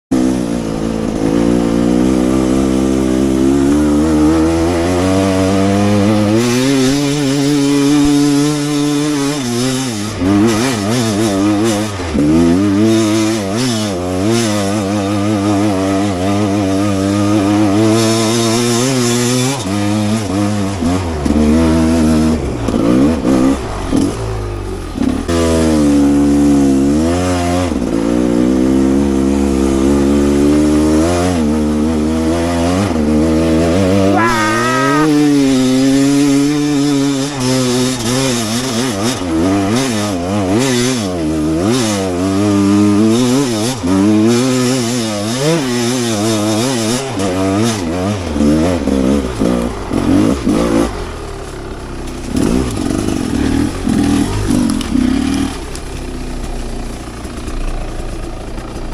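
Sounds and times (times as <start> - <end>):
two-stroke motorcycle engine revving: 0.1 - 58.9.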